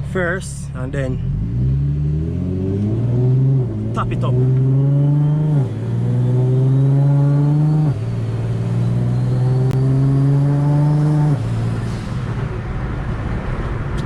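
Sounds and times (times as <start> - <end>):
car engine accelerating hard: 1.0 - 14.0.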